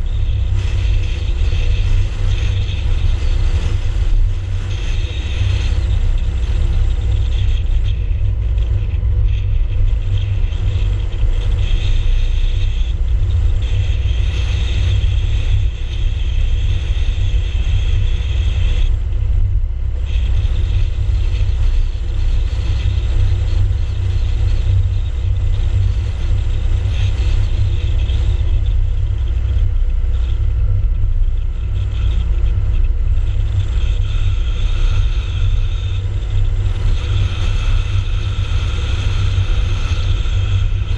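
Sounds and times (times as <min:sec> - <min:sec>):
faint high whine: 0:00.0 - 0:40.9
road and wind noise: 0:00.0 - 0:40.9.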